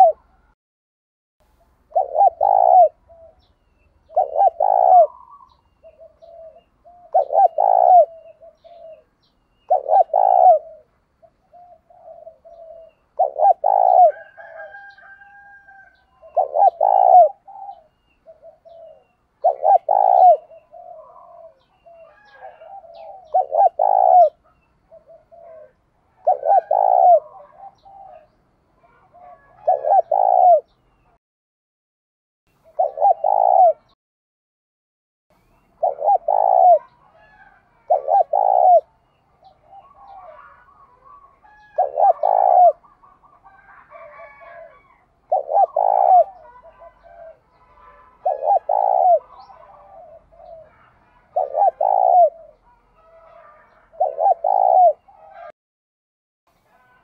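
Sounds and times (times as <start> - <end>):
dove cooing: 0.0 - 0.6, 1.6 - 31.1, 32.6 - 34.0, 35.7 - 55.5.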